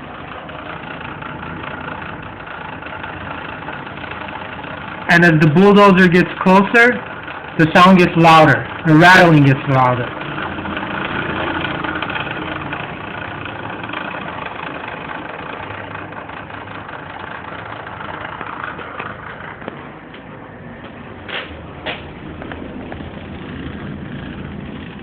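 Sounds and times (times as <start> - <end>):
building rattling: 0.0 - 25.0
bulldozer engine running: 0.0 - 25.0.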